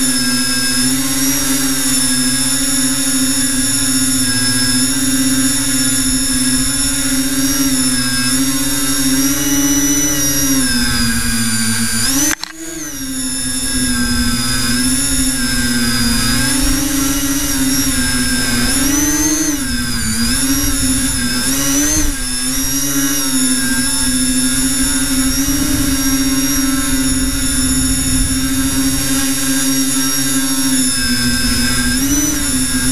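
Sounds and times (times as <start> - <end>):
drone motors whining: 0.0 - 32.9.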